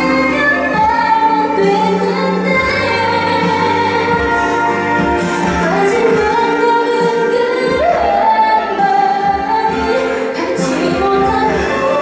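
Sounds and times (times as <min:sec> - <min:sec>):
musical accompaniment: 0:00.0 - 0:12.0
woman singing pop song live: 0:00.0 - 0:12.0.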